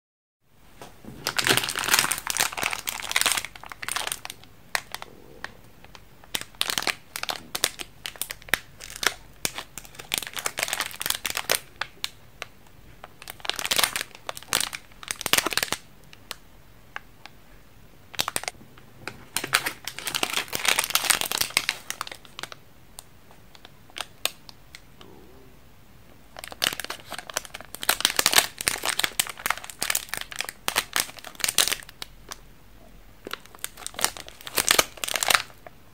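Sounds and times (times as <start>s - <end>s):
plastic wrappers crinkling: 1.1s - 5.1s, 5.9s - 16.4s, 18.1s - 22.6s, 23.3s - 24.8s, 26.4s - 32.4s, 33.2s - 35.6s.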